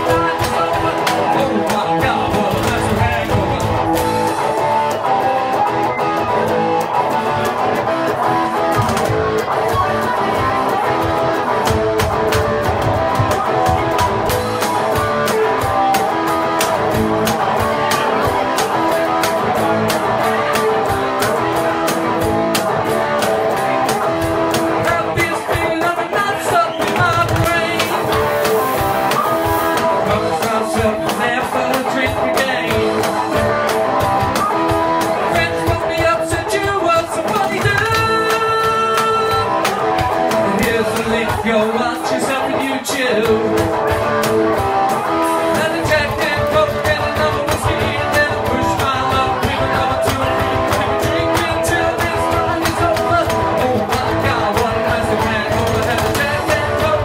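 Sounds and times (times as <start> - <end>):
drums keeping a beat: 0.0 - 57.0
electric guitar: 0.0 - 57.0.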